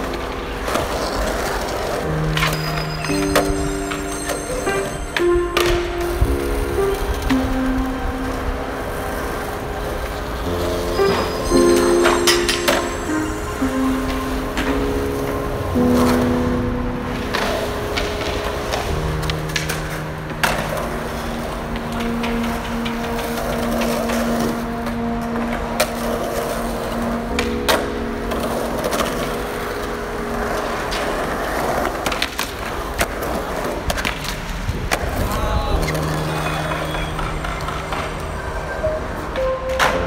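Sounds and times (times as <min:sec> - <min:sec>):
music with long held notes: 0:00.0 - 0:40.0
skateboard clacking on ground: 0:00.0 - 0:40.0
skateboard wheels rolling on concrete: 0:00.0 - 0:40.0.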